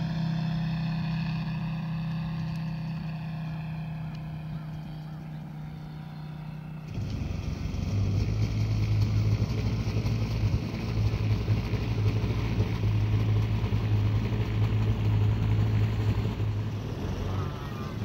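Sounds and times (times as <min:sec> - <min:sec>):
propeller airplane engine drone: 0:00.0 - 0:18.0.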